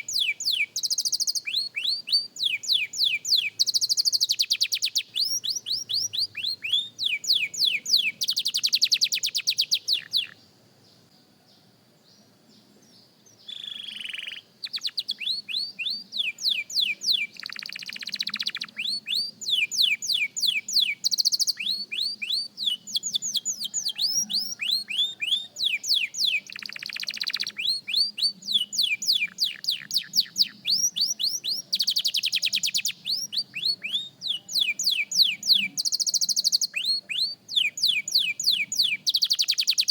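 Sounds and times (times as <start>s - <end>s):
canary singing: 0.0s - 11.0s, 13.3s - 39.9s.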